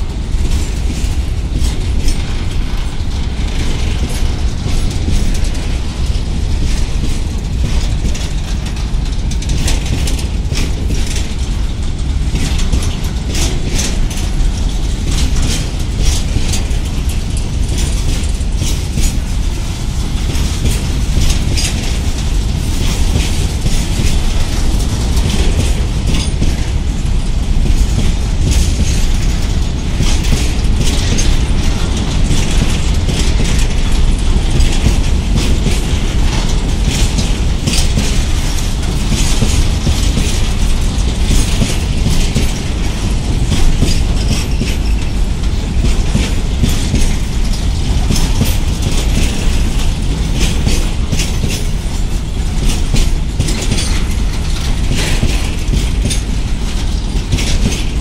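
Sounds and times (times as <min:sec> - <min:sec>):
freight train rolling past: 0:00.0 - 0:58.0
wheels rattling and clattering: 0:00.0 - 0:58.0.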